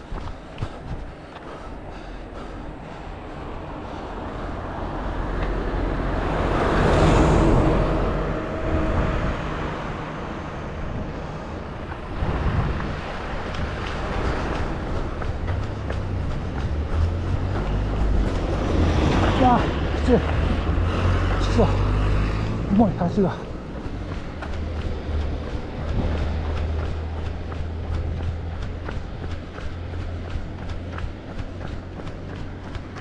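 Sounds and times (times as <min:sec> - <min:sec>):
steady low rumble: 0:00.0 - 0:33.0
vehicle passing by: 0:03.3 - 0:33.0.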